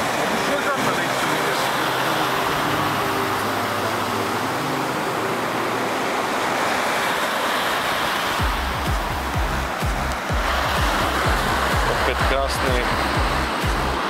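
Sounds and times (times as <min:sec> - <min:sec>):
ocean surf breaking on beach: 0:00.0 - 0:14.0.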